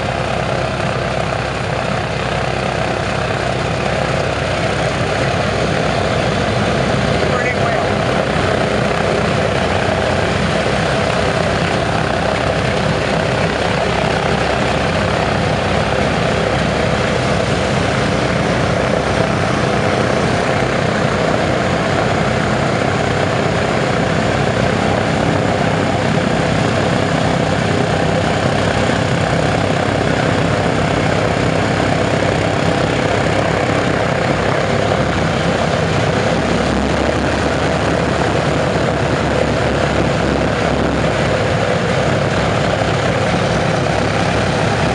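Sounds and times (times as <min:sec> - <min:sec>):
radial engines droning: 0:00.0 - 0:44.9.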